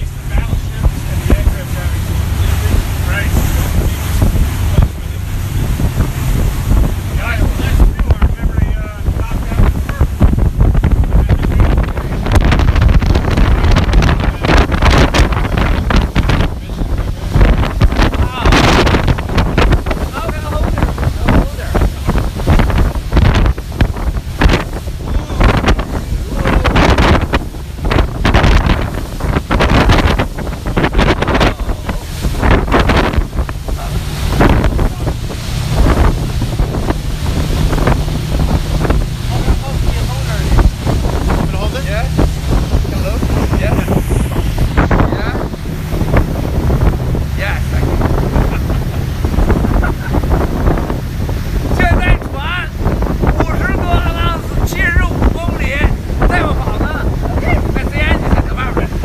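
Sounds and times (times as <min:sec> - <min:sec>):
boat engine low rumble: 0:00.0 - 0:59.0
water surging: 0:00.0 - 0:59.0
wind buffeting microphone: 0:00.0 - 0:59.0.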